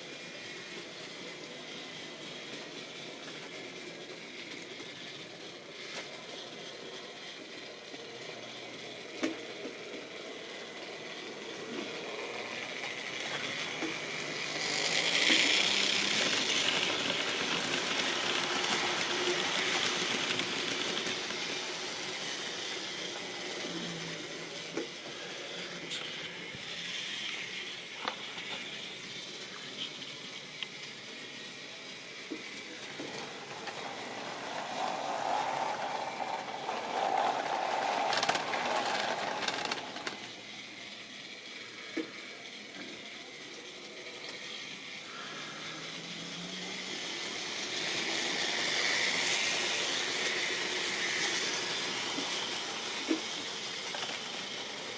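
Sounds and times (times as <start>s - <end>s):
model train running on track: 0.0s - 54.9s
wheels clicking on rail joints: 0.0s - 54.9s.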